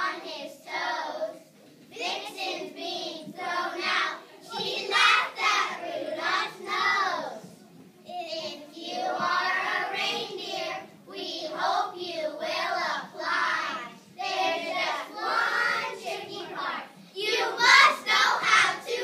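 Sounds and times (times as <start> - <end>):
children reciting in unison: 0.0 - 19.0.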